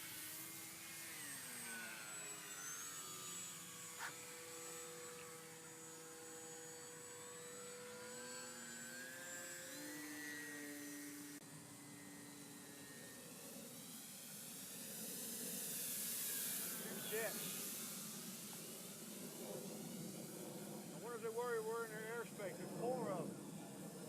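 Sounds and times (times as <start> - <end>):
model airplane electric motors whining: 0.0 - 24.0.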